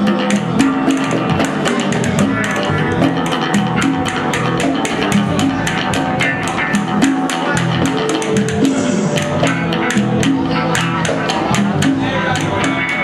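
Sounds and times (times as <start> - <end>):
bass guitar: 0.0 - 13.0
guitars: 0.0 - 13.0
percussion hits: 0.0 - 13.0.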